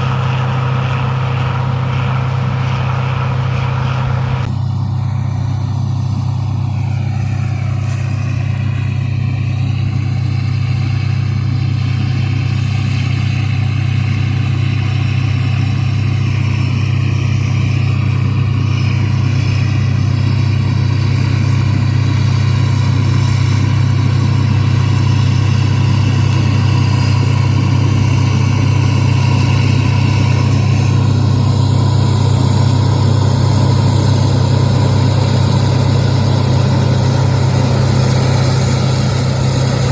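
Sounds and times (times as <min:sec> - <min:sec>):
farm machine engine running: 0:00.0 - 0:39.9.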